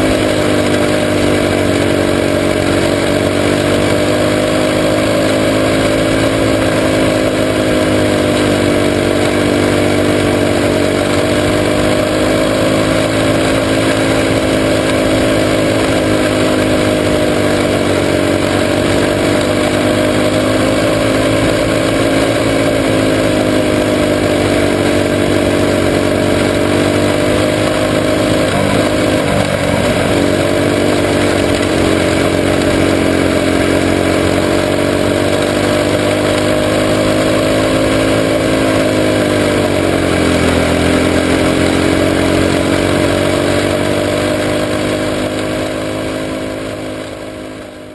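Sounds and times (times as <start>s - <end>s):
racing car engine running hard: 0.0s - 47.9s.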